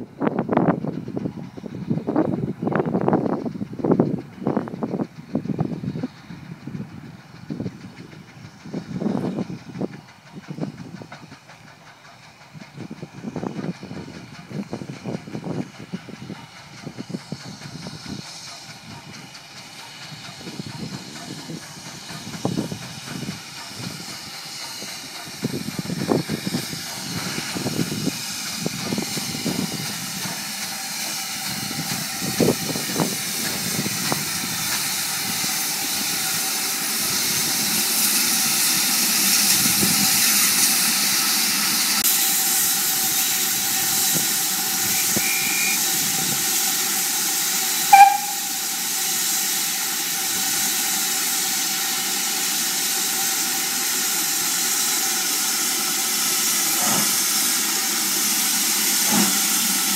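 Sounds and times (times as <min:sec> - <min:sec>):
steam hissing: 0:00.0 - 0:59.9
steam locomotive pulling in: 0:00.0 - 0:59.9.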